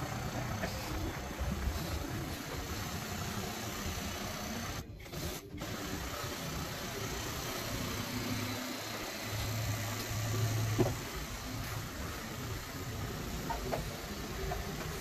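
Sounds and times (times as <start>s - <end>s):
carpet cleaning machine running: 0.0s - 15.0s.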